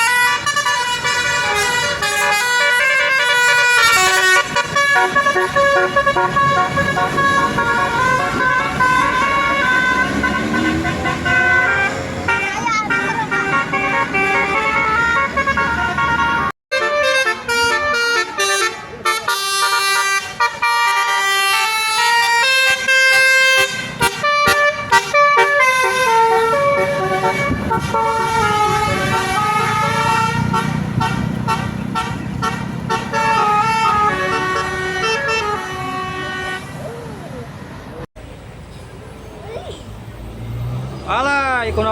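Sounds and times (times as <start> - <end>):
bus horn playing a tune: 0.0 - 36.9
bus engine rumbling: 0.0 - 41.9.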